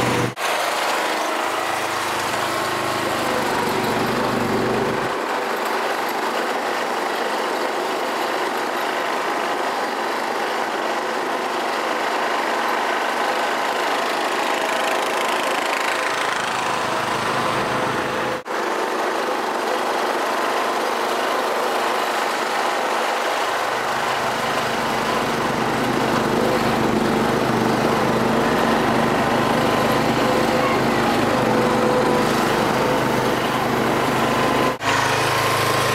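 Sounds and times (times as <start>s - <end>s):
lawn tractor engine running: 0.0s - 35.9s.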